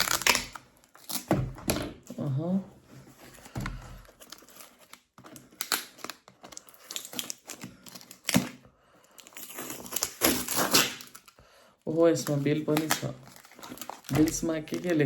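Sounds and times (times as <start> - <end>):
packaging crinkling and rustling: 0.0 - 1.6, 3.0 - 11.4, 12.1 - 15.0.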